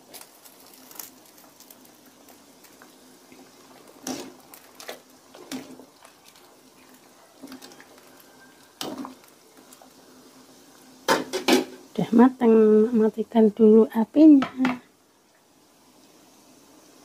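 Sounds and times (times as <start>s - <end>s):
soup simmering in a pan: 0.0s - 13.0s, 14.6s - 17.0s.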